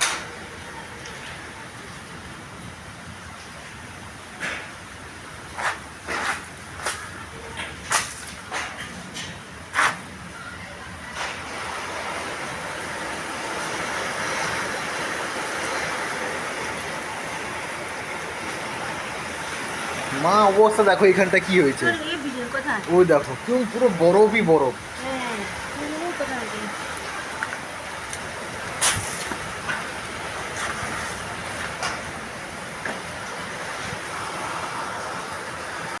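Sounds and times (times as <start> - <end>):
hailstorm downpour hiss: 0.0 - 10.3, 11.2 - 36.0
heavy rain falling: 0.0 - 36.0.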